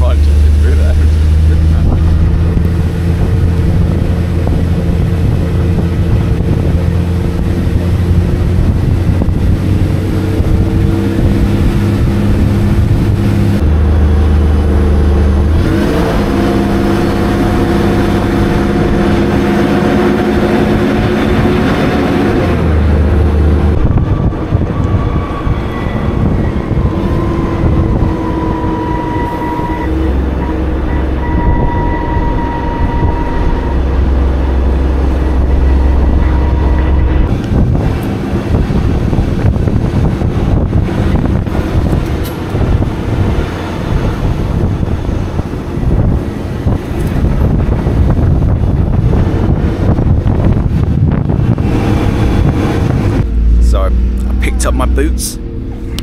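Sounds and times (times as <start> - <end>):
bus diesel engine rumbling: 0.0 - 56.0.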